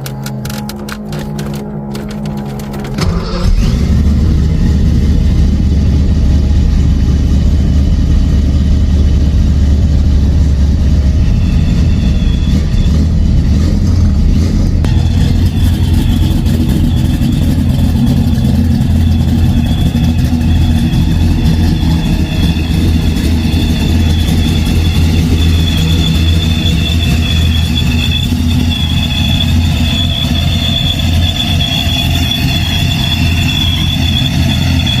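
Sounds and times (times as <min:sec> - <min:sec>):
car engine idling: 0:00.0 - 0:35.0
steady high-pitched whine: 0:00.0 - 0:35.0.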